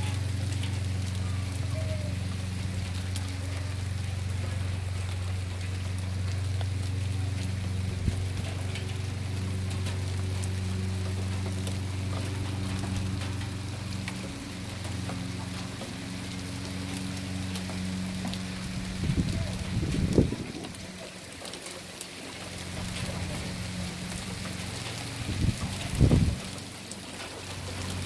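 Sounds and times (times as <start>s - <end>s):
low mechanical hum: 0.0s - 28.0s
rain pattering: 0.0s - 28.0s.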